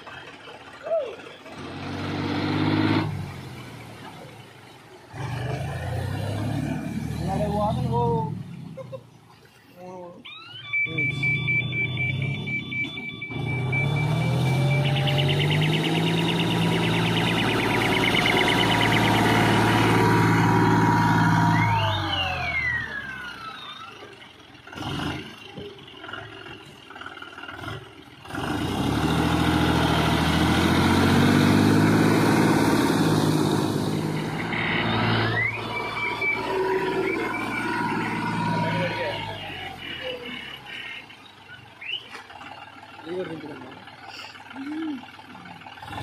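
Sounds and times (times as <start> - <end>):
tractor diesel engine revving: 0.0 - 8.9, 10.7 - 46.0
vehicle driving through water: 0.0 - 9.7, 10.8 - 46.0.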